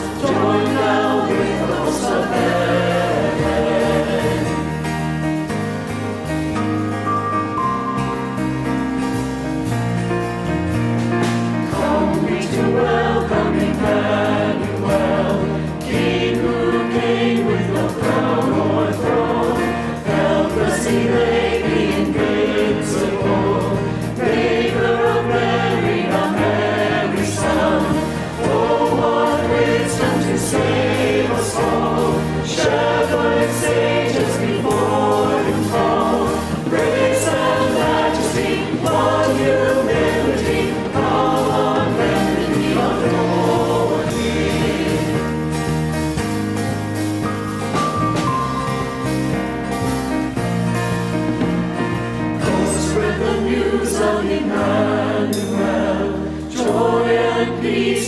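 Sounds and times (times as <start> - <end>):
choir singing gospel: 0.0 - 6.5, 7.5 - 58.0
instrumental accompaniment: 0.0 - 58.0.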